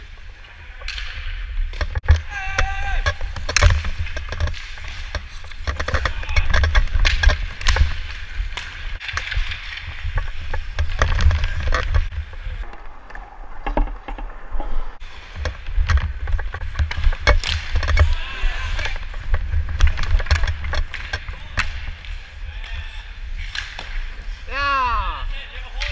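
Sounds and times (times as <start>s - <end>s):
skate blades scraping ice: 0.0s - 12.6s, 14.3s - 25.9s
hockey sticks and puck clacking: 0.0s - 14.4s, 15.0s - 25.9s.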